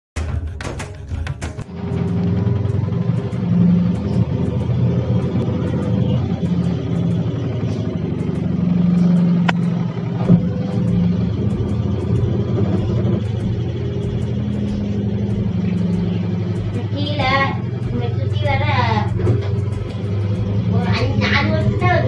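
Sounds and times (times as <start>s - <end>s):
washing machine motor hum: 1.6s - 22.0s.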